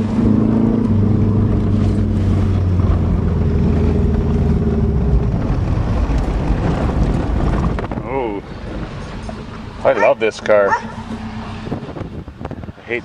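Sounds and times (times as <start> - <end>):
car engine running: 0.0 - 12.9
road noise: 0.0 - 13.0.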